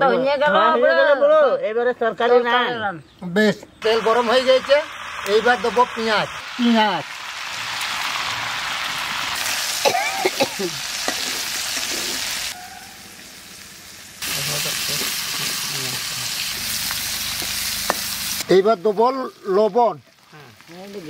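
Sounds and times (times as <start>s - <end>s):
onions sizzling in hot oil: 3.8s - 21.0s.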